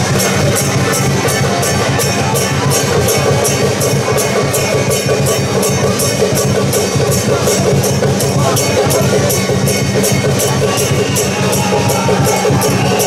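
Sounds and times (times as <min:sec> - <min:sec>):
drums with steady beat: 0:00.0 - 0:13.0
sustained pitched instruments: 0:00.0 - 0:13.0.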